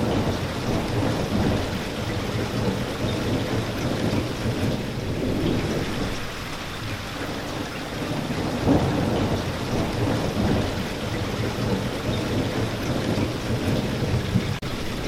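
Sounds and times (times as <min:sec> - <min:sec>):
steady rain: 0:00.0 - 0:15.0
thunder rumble: 0:00.0 - 0:15.0.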